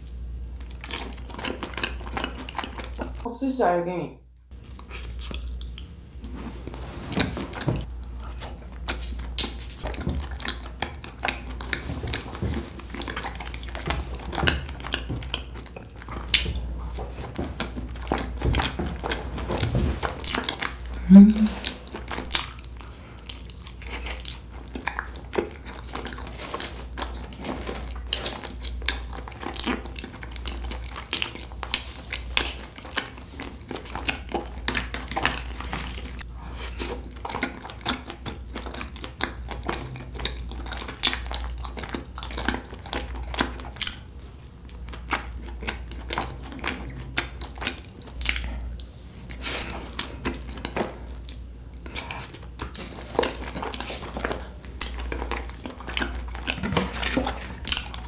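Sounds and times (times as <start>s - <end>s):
person chewing: 0.0s - 3.3s, 4.5s - 58.0s
steady low hum: 0.0s - 58.0s.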